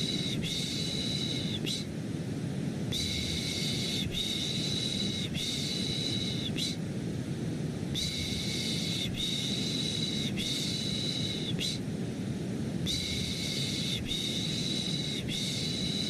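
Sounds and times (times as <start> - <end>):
deep rushing white noise: 0.0 - 16.0.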